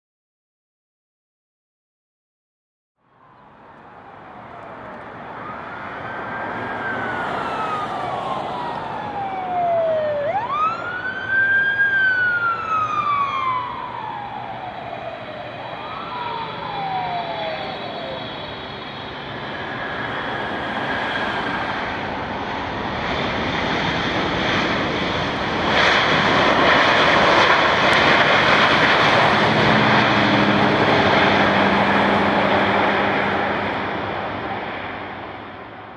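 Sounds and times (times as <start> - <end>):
jet engines whining and roaring: 3.1 - 35.9.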